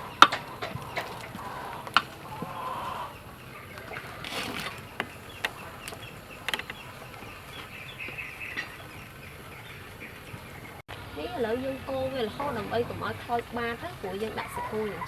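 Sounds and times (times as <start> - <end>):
poultry clucking: 0.0 - 15.0.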